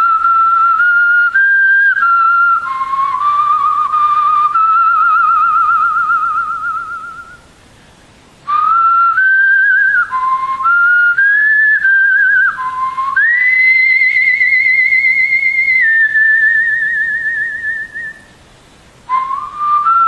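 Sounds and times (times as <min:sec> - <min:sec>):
whistled melody: 0:00.0 - 0:07.5, 0:08.5 - 0:18.3, 0:19.1 - 0:20.0.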